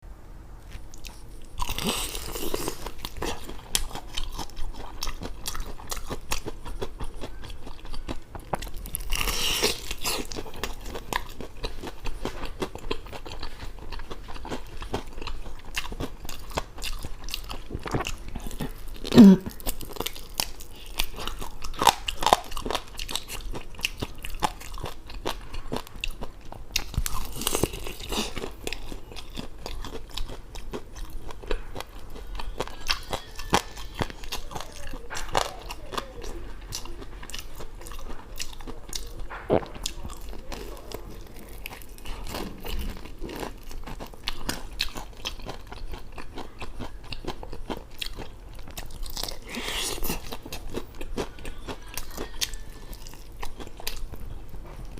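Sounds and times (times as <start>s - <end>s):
chewing crispy fried chicken: 0.6s - 54.9s.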